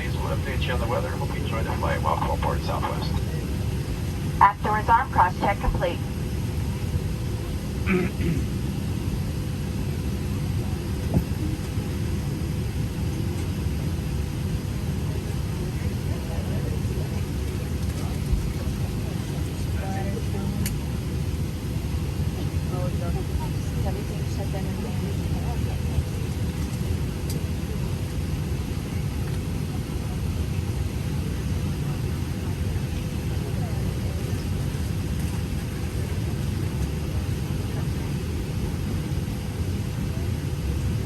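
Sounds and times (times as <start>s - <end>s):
airliner cabin rumble: 0.0s - 41.0s
faint steady hum: 0.0s - 41.0s.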